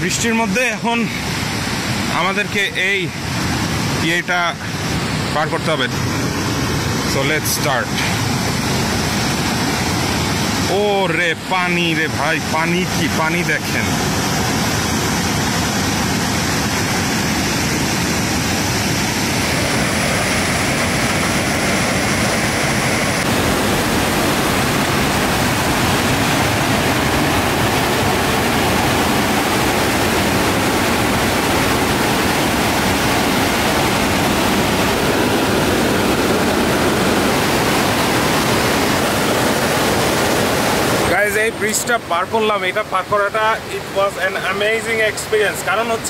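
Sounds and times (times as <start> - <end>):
water rushing over boulders: 0.0 - 46.0.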